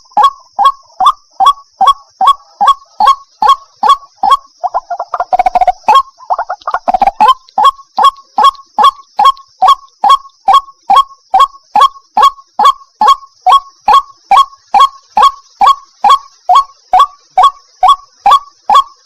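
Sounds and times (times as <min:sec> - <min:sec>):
waterhen calling harsh notes: 0:00.0 - 0:19.0.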